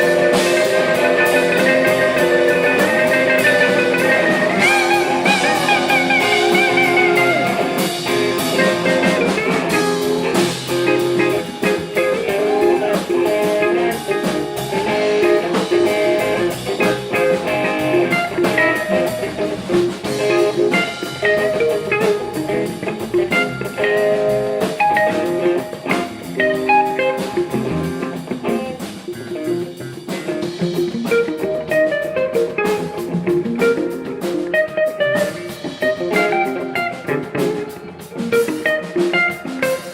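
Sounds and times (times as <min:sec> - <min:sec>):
blues guitar: 0:00.0 - 0:39.9
drum kit: 0:00.0 - 0:39.9.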